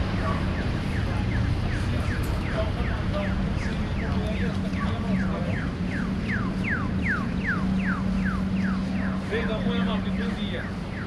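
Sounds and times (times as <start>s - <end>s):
crossing signal chirping: 0.0s - 11.0s
street traffic noise: 0.0s - 11.0s.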